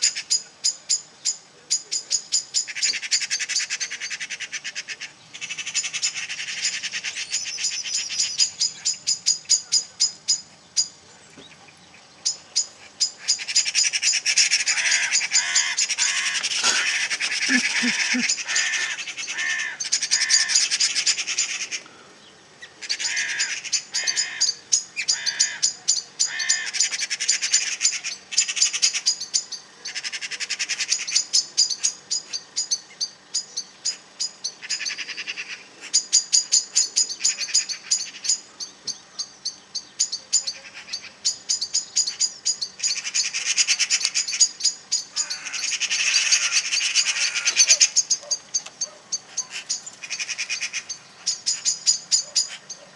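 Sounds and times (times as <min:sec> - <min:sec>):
birds chirping and scolding: 0:00.0 - 0:52.9.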